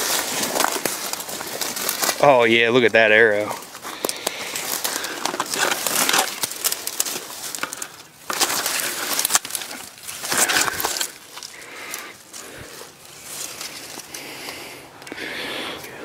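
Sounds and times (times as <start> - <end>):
dry stalks crunching and rustling: 0.0 - 16.0.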